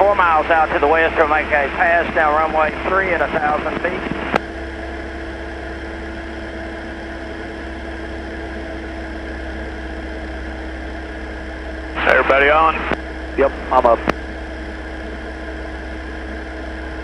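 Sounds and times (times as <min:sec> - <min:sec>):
airplane engine and propeller drone: 0:00.0 - 0:17.0
steady hum: 0:00.0 - 0:17.0.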